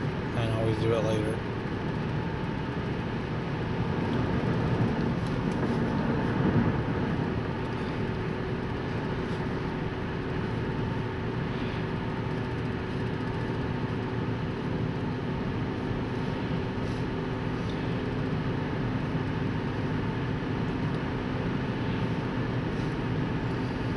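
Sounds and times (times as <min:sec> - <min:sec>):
car road and engine noise: 0:00.0 - 0:23.9.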